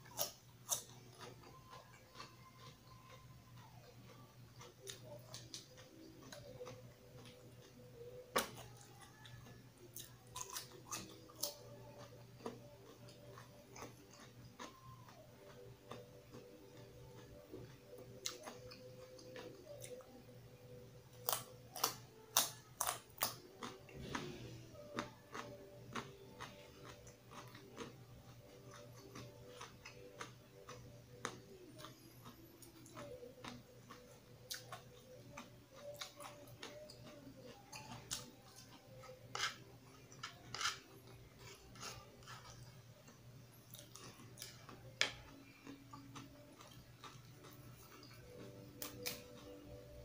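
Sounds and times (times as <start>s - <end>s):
person chewing with wet smacks: 0.0s - 20.1s, 21.2s - 50.0s.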